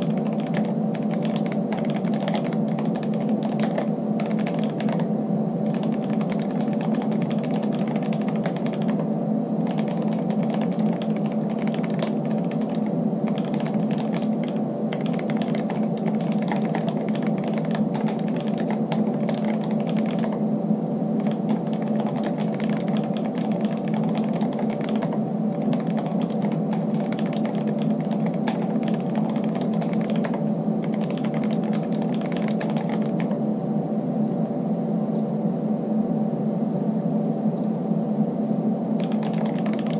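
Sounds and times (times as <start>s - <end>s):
typing on mechanical keyboard: 0.0s - 5.1s, 5.7s - 9.0s, 9.6s - 20.4s, 21.2s - 33.4s, 39.0s - 39.9s
steady low hum: 0.0s - 39.9s.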